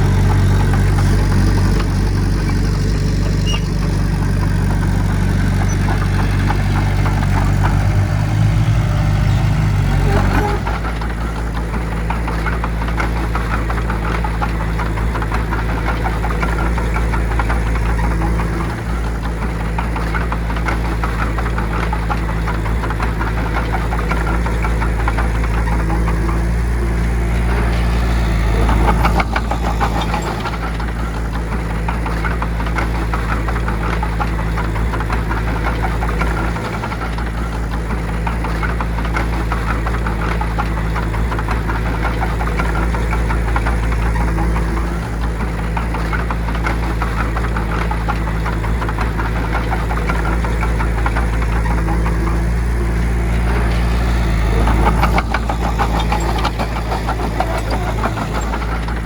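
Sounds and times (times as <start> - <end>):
fine rattling clatter: 0.0 - 59.0
large diesel engine running: 0.0 - 59.0.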